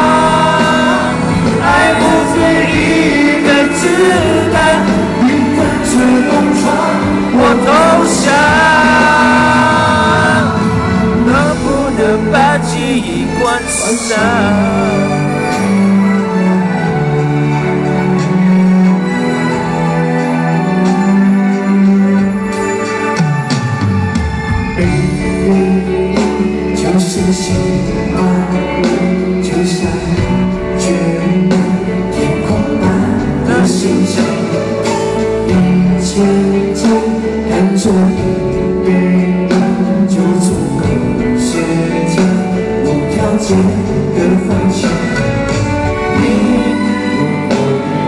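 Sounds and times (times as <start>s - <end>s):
man singing into a microphone: 0.0s - 16.7s, 24.7s - 48.0s
band playing pop music: 0.0s - 48.0s.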